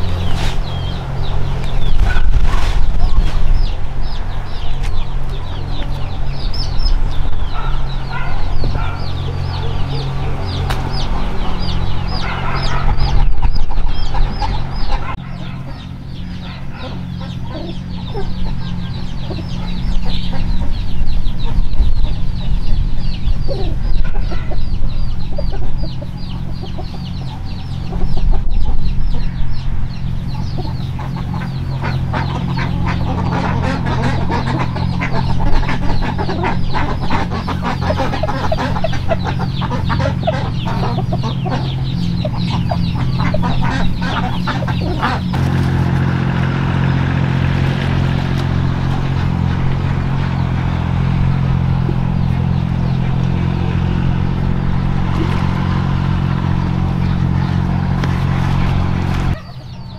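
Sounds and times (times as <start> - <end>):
chickens clucking: 0.0 - 59.9
rapid high peeping: 0.0 - 59.9
steady low hum: 0.0 - 59.9.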